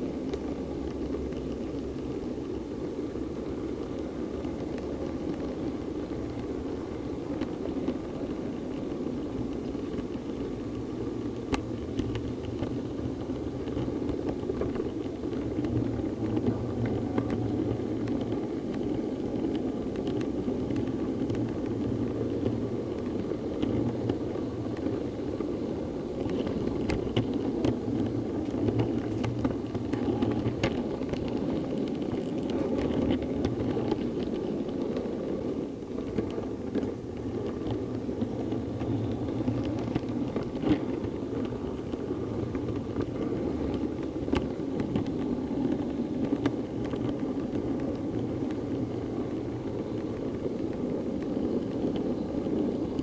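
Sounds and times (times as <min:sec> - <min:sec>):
wheels clicking over rail joints: 0:00.0 - 0:53.0.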